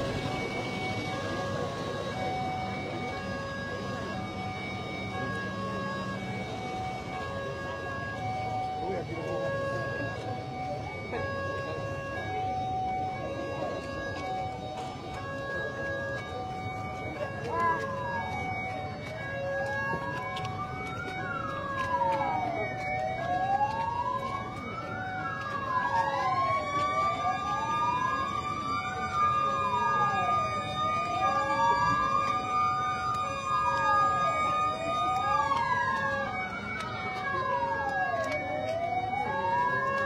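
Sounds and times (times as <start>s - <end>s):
siren steady high tone: 0.0s - 40.0s
siren wailing: 0.0s - 40.0s.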